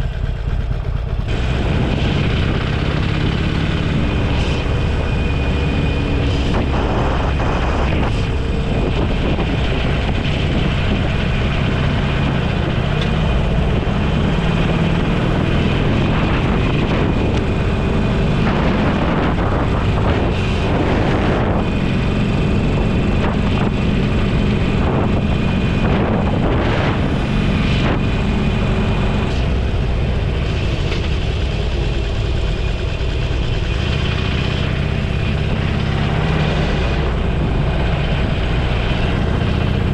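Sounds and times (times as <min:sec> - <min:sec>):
motorcycle engine: 0:00.0 - 0:39.9
wind rush on microphone: 0:00.0 - 0:39.9.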